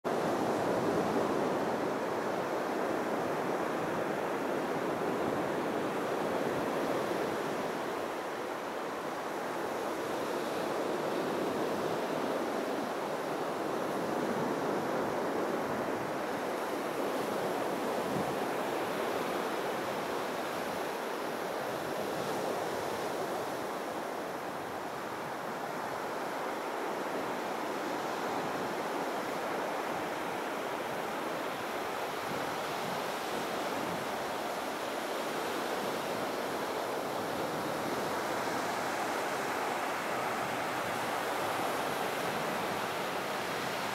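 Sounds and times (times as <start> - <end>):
wind: 0.0 - 43.9
sea surf rushing: 0.1 - 43.9.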